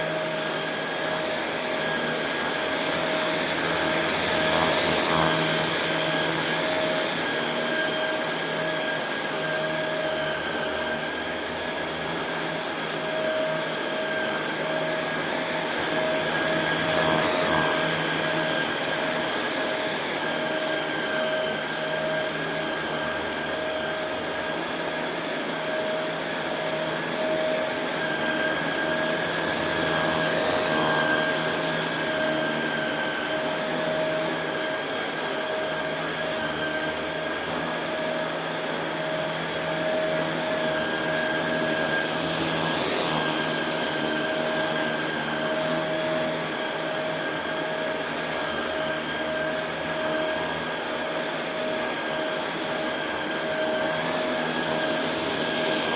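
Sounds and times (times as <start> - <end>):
vacuum cleaner running on carpet: 0.0 - 55.9.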